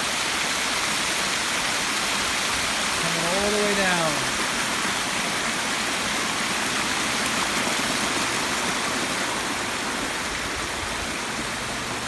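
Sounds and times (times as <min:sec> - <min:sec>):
waterfall cascading: 0:00.0 - 0:12.0.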